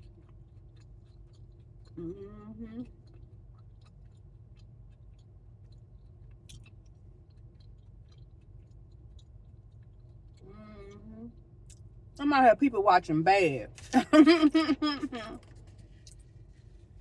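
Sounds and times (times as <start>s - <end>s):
person chewing food: 0.0s - 12.2s, 15.4s - 17.0s
steady low hum: 0.0s - 17.0s.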